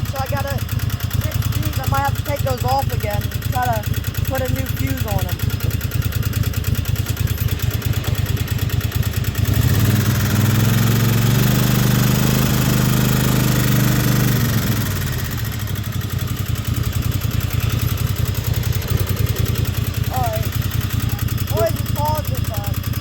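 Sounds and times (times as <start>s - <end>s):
riding lawnmower engine revving: 0.0s - 23.0s.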